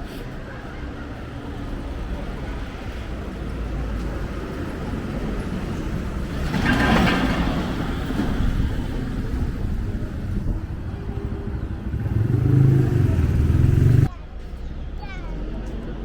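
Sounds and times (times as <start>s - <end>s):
vehicle engine passing by: 1.2s - 14.1s.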